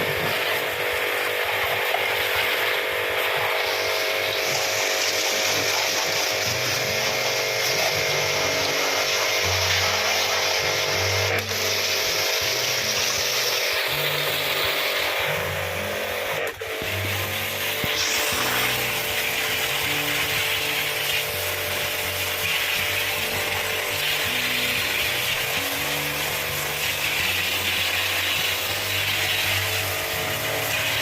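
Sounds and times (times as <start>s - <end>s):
continuous loud hiss: 0.0s - 31.0s
music with stepping bass line: 0.0s - 31.0s.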